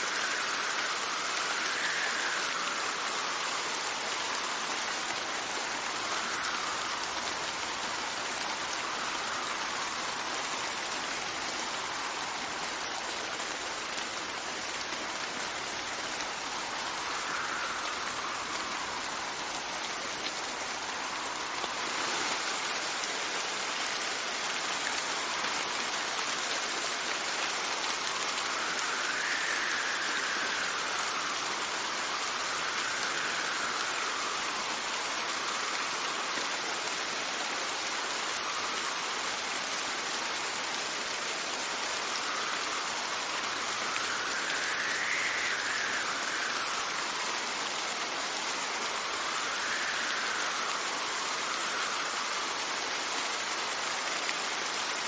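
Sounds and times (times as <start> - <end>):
whistling wind gusts: 0.0 - 24.1, 27.9 - 36.3, 41.4 - 54.1
steady rain falling: 0.0 - 55.0.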